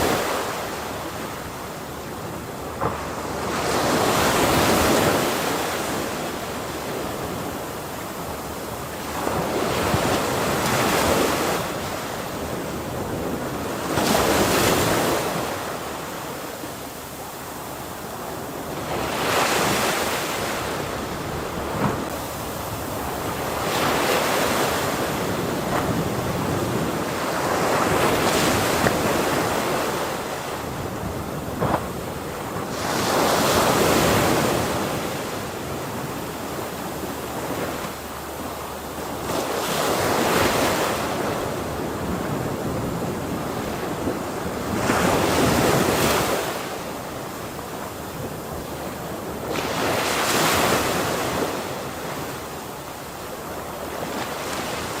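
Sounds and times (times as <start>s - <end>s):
ocean waves crashing on shore: 0.0s - 55.0s.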